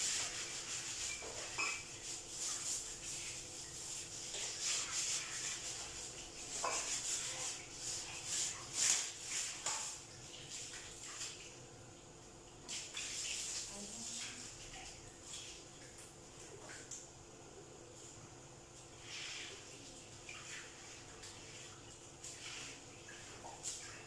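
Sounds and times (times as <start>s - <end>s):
brush scrubbing wet tiles: 0.0s - 11.5s, 12.6s - 16.9s, 18.8s - 24.0s.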